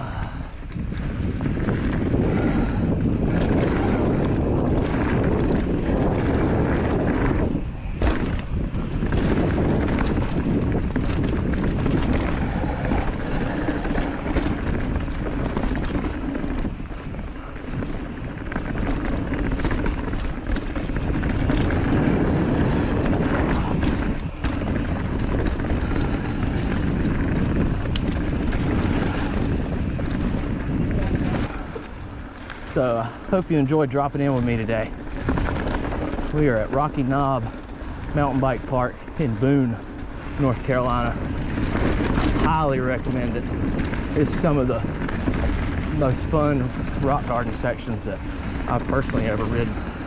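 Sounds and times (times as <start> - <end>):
bike rattling over rocks: 0.0 - 50.0
bike tyre rumble: 0.0 - 50.0
wind noise on microphone: 0.0 - 50.0.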